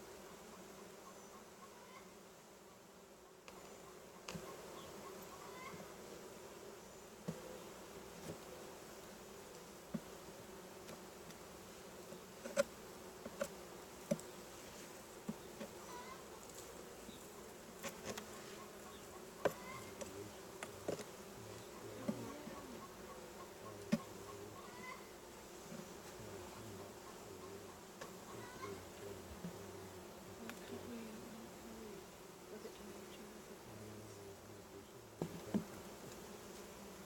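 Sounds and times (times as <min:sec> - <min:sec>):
honeybees buzzing: 0:00.0 - 0:37.0.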